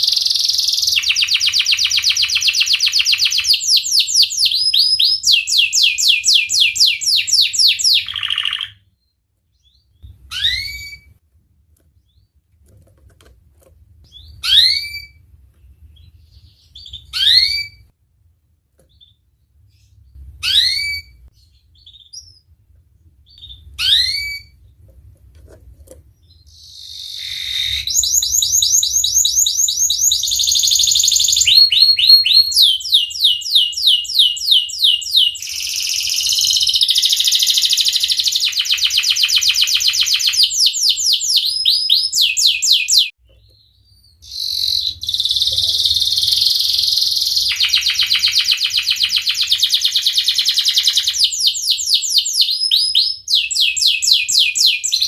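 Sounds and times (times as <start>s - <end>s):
canary trilling: 0.0s - 11.2s, 14.1s - 15.3s, 15.9s - 17.9s, 18.9s - 22.5s, 23.3s - 24.7s, 26.2s - 55.0s.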